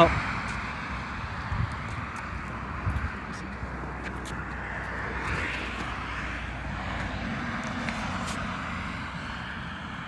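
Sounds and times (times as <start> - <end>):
road traffic rushing: 0.0 - 10.0.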